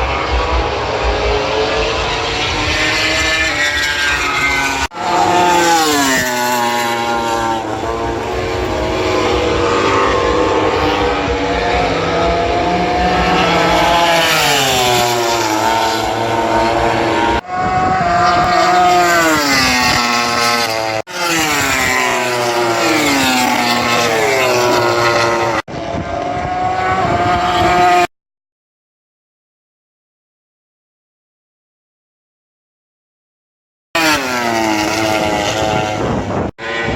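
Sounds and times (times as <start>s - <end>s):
racing motorcycles passing: 0.0s - 28.1s, 34.0s - 36.9s.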